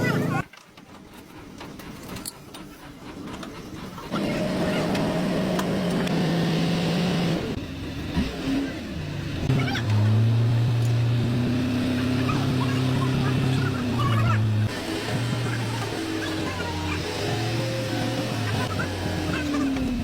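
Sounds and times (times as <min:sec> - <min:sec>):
machine motor humming: 0:02.8 - 0:20.0.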